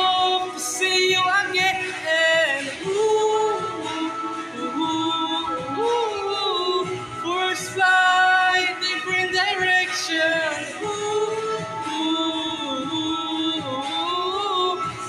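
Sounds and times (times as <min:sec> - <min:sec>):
voice singing wordless melody: 0:00.0 - 0:15.0.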